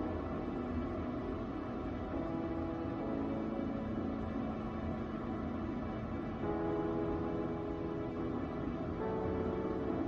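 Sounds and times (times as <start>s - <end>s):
eerie music of long held notes: 0.0s - 10.0s.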